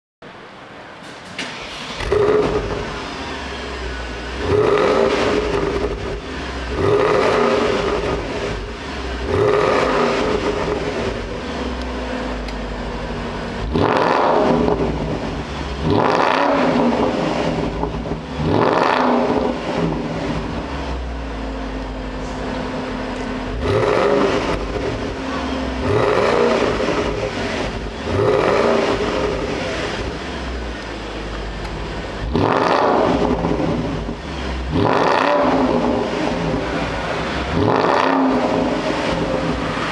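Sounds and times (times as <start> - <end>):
car engine revving: 1.2 - 39.9.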